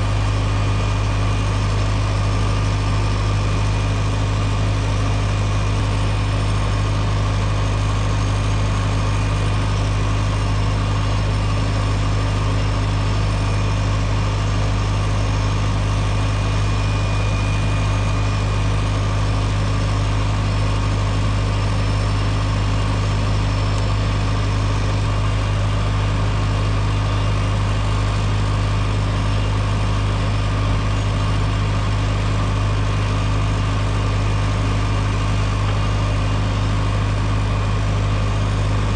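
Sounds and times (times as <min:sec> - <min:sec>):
tractor engine running steadily: 0:00.0 - 0:38.9.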